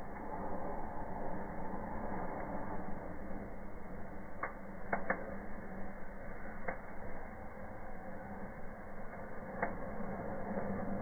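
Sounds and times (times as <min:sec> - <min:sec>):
fire burning with rushing hiss: 0:00.0 - 0:11.0
fire crackles: 0:00.0 - 0:11.0.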